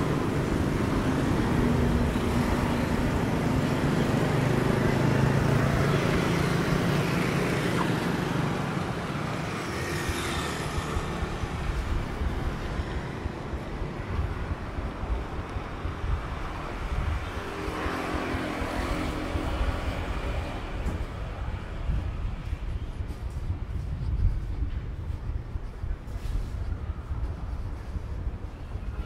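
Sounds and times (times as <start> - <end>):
motorbikes and cars passing: 0.0 - 29.0.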